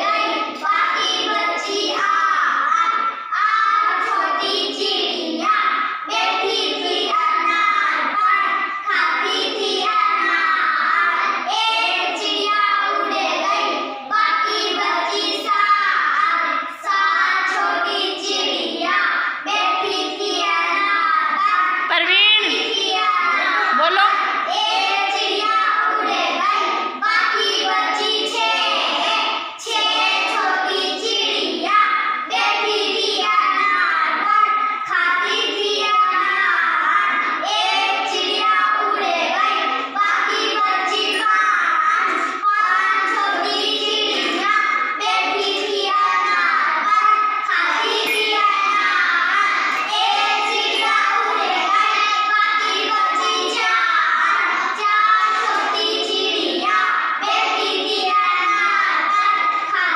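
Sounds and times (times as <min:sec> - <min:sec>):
child singing: 0:00.0 - 0:59.9.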